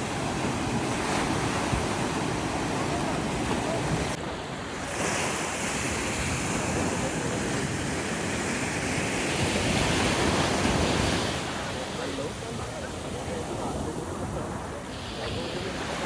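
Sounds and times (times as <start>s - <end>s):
sea waves washing: 0.0s - 16.0s
wind rushing over microphone: 0.0s - 16.0s.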